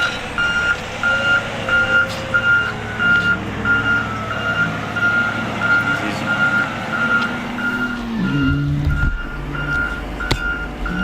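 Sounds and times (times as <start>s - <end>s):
backup alarm beeping: 0.0s - 11.0s
diesel engine running: 0.0s - 11.0s.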